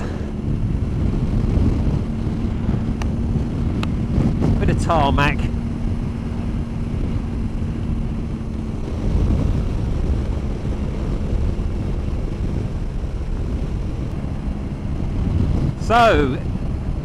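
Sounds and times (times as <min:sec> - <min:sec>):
motorcycle engine running: 0:00.0 - 0:17.0
wind and road rush: 0:00.0 - 0:17.0.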